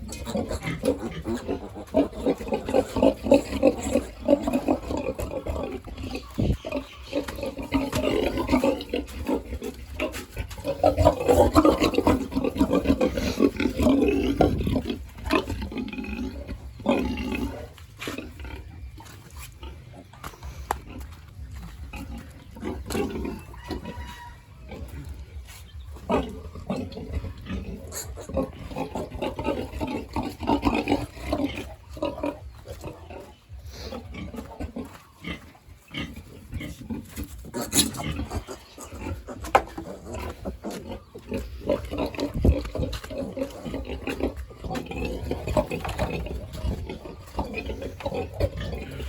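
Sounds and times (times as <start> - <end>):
pigs grunting: 0.0 - 49.0.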